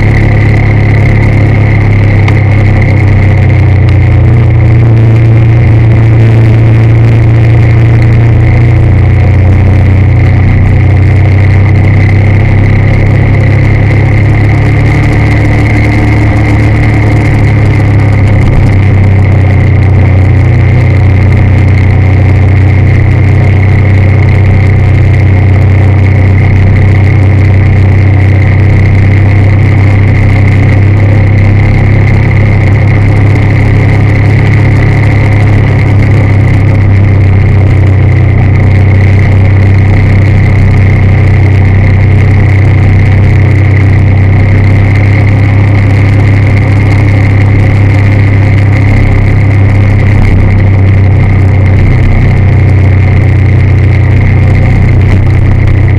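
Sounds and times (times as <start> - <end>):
high whine: 0.0 - 55.9
vehicle engine drone and road noise: 0.0 - 55.9.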